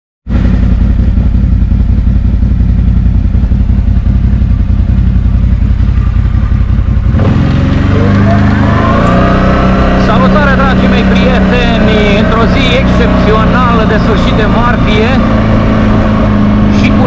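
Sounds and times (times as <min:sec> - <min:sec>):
quad engine idling and revving: 0:00.3 - 0:17.0.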